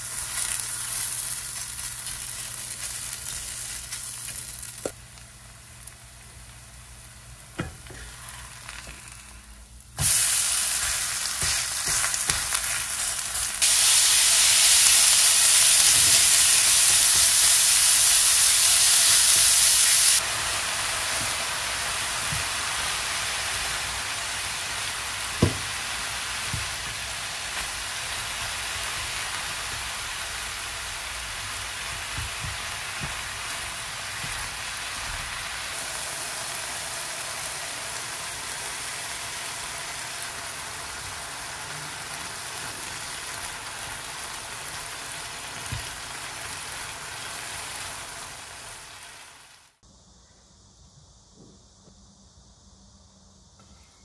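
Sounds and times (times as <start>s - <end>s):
food sizzling in a hot pan: 0.0s - 49.8s.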